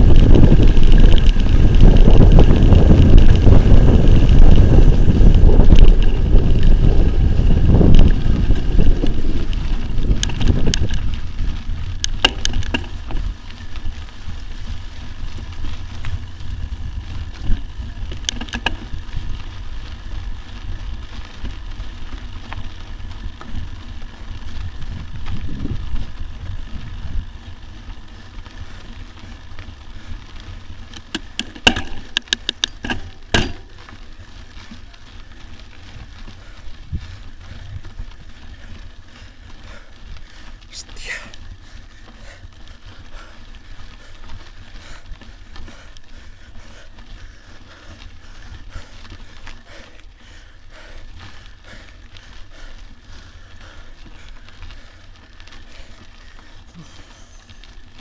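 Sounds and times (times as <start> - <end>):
bike clicks and rattles: 0.0 - 58.0
wind and tyre rumble: 0.0 - 58.0.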